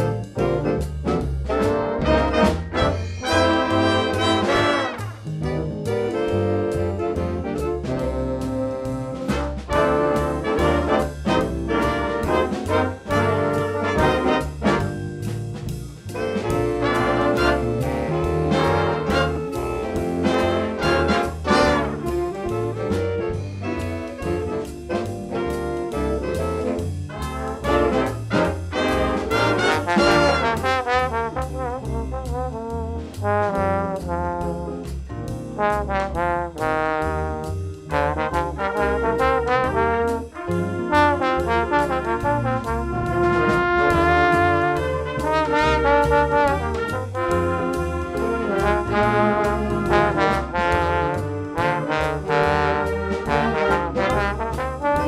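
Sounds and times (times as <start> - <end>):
band playing instrumental music: 0.0 - 55.0.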